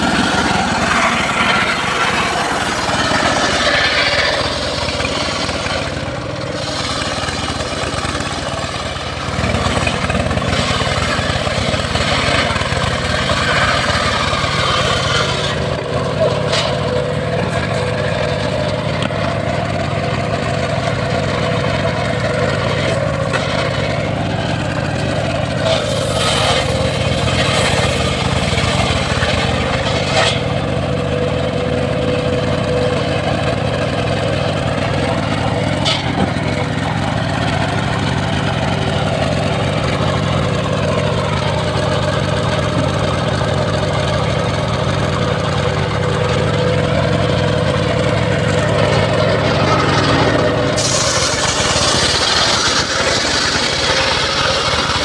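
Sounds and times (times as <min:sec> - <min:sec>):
saw blade cutting log: 0:00.0 - 0:55.0
sawmill engine running: 0:00.0 - 0:55.0.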